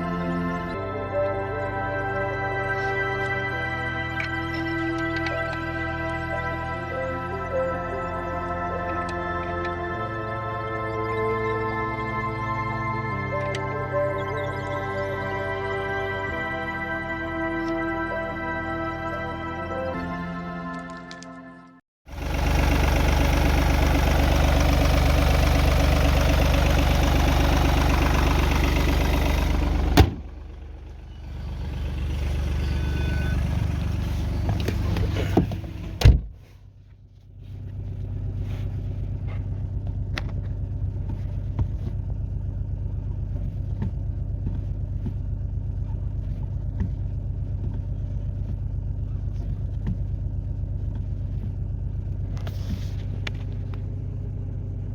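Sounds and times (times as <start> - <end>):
car engine running: 0.0 - 18.3, 22.1 - 54.9.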